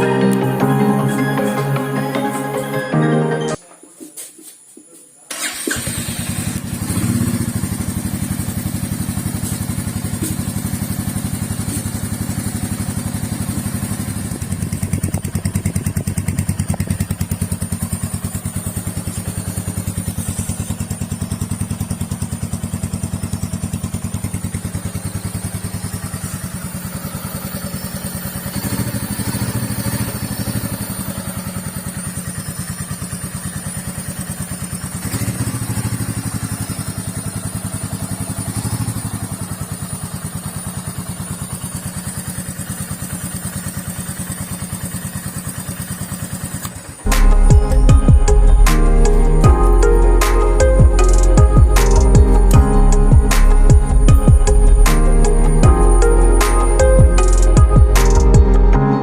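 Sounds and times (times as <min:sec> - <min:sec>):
motorcycle engine idling: 0:05.3 - 0:59.0.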